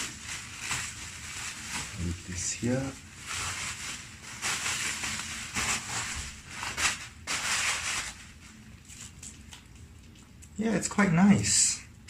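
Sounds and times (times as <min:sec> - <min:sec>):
bubble wrap crinkling: 0:00.0 - 0:10.4.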